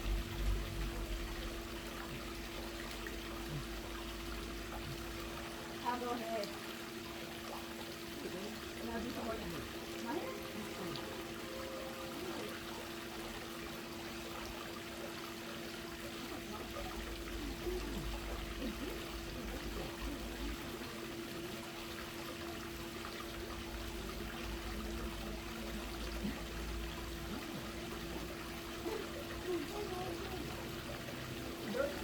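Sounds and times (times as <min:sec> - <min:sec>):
pool water trickling: 0:00.0 - 0:32.0
steady hum: 0:00.0 - 0:32.0.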